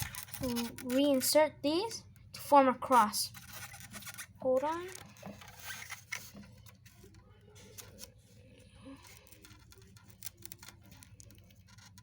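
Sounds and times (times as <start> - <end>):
pins clicking and scraping in foam: 0.0 - 1.4, 2.9 - 8.1, 9.0 - 12.0
low room hum: 0.0 - 12.0.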